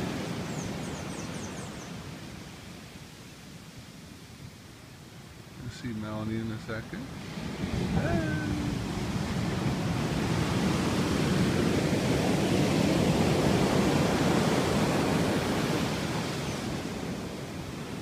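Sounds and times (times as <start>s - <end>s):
surf breaking on a beach: 0.0s - 4.3s, 5.2s - 18.0s.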